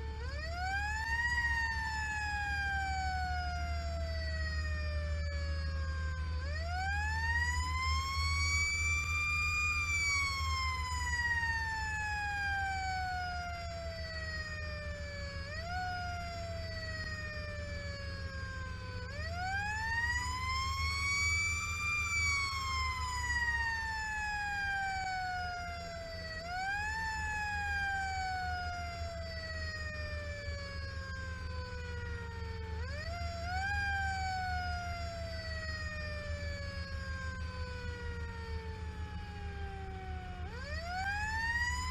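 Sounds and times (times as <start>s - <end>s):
fire engine siren wailing: 0.0s - 41.9s
truck engine drone: 0.0s - 41.9s.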